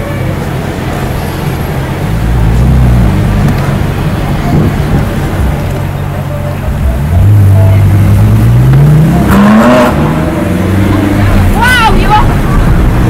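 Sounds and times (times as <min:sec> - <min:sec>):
sports car engine accelerating: 0:00.3 - 0:11.6.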